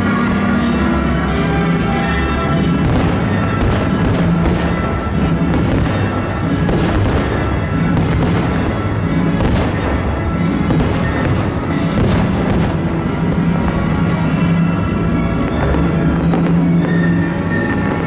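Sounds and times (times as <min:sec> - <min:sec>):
fireworks bangs: 0:00.0 - 0:18.0
loud music: 0:00.0 - 0:18.0.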